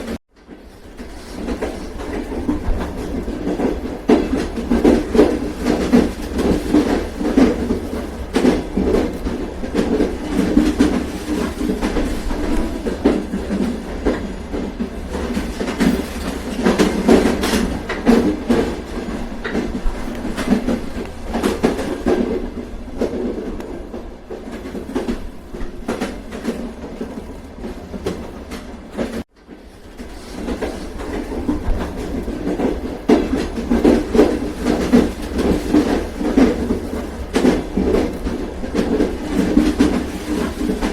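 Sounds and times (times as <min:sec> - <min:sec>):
train clattering on rails: 0:00.0 - 0:40.9.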